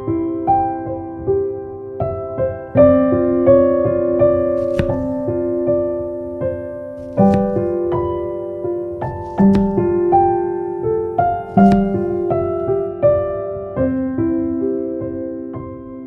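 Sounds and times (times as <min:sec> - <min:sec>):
electric piano melody: 0:00.0 - 0:16.0.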